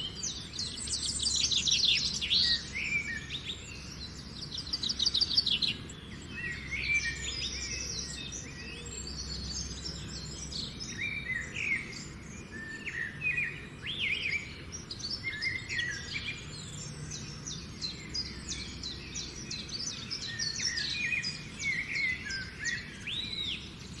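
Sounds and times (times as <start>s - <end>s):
birds chirping and singing: 0.0s - 24.0s.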